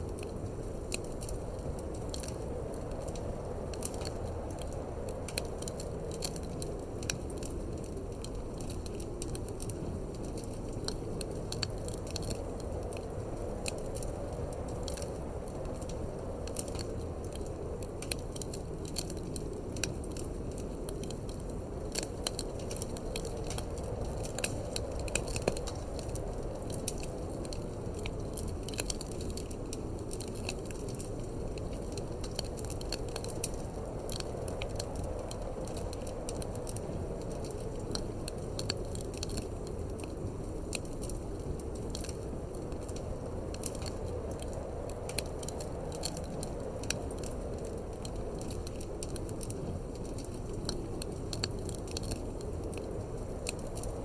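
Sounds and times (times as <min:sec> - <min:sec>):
low rush of wind: 0:00.0 - 0:54.0
wood fire crackling and popping: 0:00.0 - 0:54.0.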